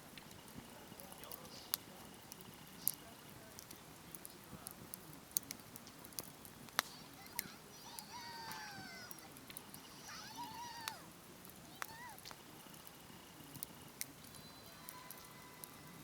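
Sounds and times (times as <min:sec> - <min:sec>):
wood campfire crackling: 0:00.0 - 0:16.0.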